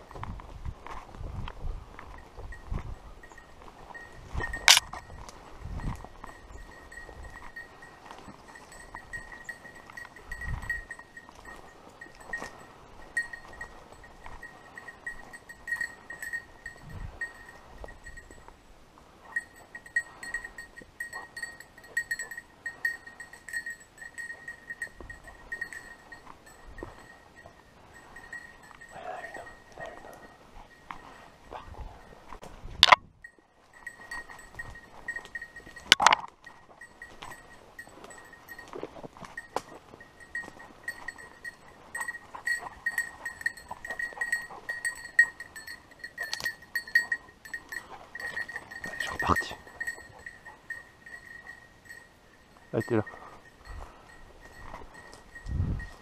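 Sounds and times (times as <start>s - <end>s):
dog collar bell clinking: 2.0s - 18.6s, 19.2s - 56.0s.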